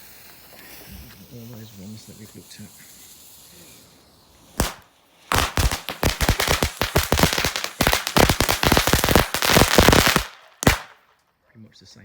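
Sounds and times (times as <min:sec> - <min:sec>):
firework fountain crackling: 0:00.0 - 0:11.2.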